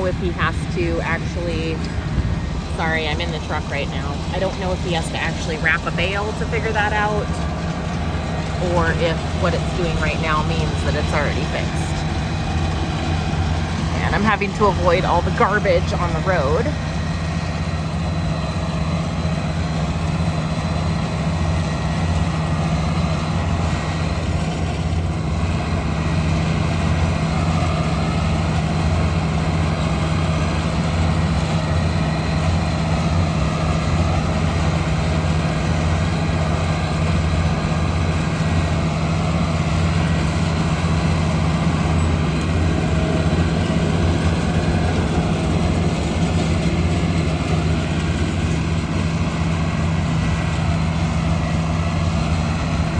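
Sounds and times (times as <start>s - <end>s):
road noise: 0.0s - 52.9s
truck engine drone: 0.0s - 52.9s.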